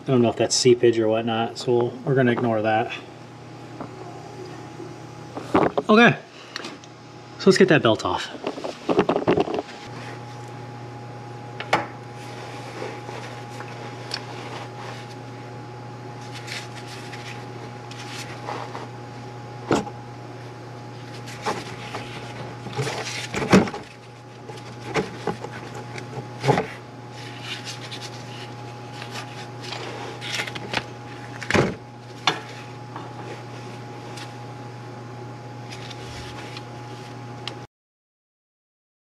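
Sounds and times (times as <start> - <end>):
steady low hum: 0.0 - 37.7.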